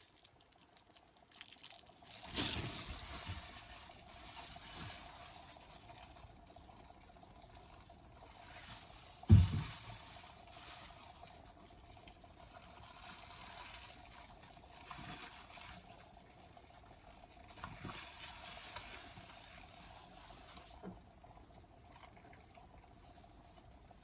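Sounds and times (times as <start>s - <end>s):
faint trickling liquid: 0.0s - 24.0s.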